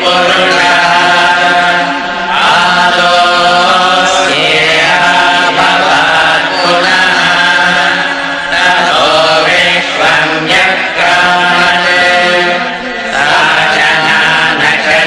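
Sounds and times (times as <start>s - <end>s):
person chanting slow melody: 0.0s - 15.0s.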